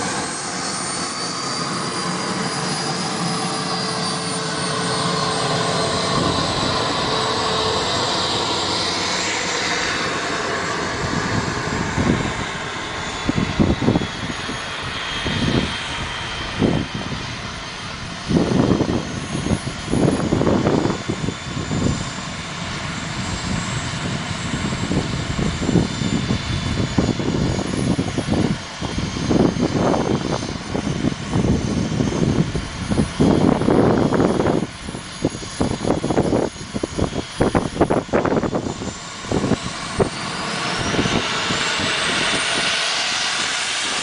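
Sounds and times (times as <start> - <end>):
model jet engine whine: 0.0 - 44.0
wind on microphone: 0.0 - 44.0.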